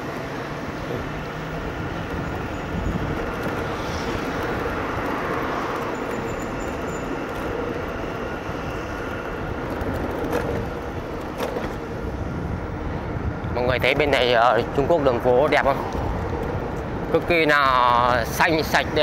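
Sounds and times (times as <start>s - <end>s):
road vehicle noise: 0.0s - 19.0s.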